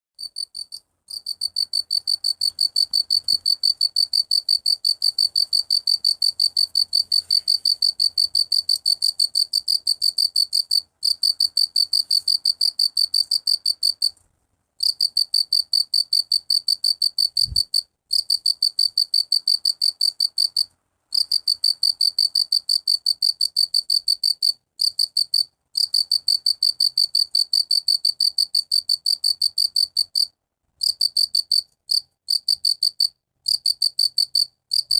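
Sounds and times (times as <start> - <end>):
cricket chirping: 0.2 - 14.2, 14.8 - 34.9.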